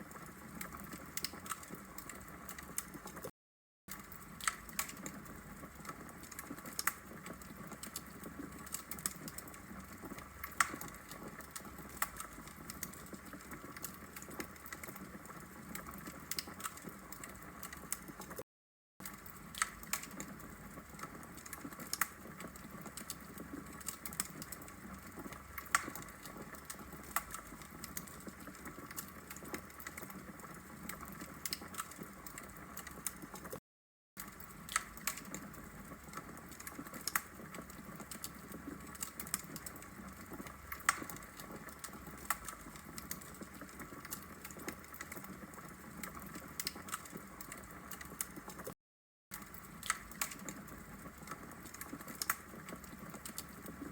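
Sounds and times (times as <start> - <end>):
burning wood crackling and popping: 0.0 - 3.3, 3.9 - 18.4, 19.0 - 33.6, 34.2 - 48.7, 49.3 - 53.9.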